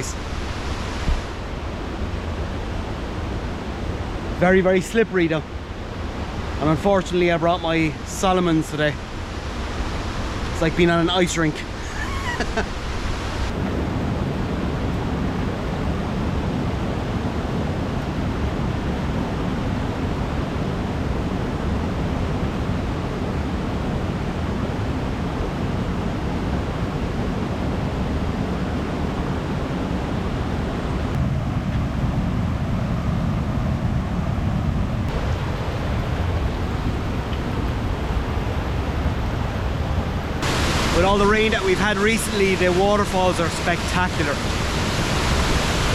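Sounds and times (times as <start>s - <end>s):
rushing river and waterfalls: 0.0s - 45.9s.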